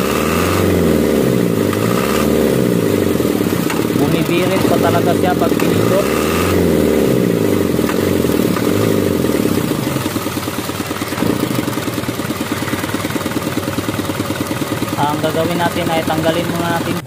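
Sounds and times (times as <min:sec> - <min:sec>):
diesel engine revving and idling: 0:00.0 - 0:17.0.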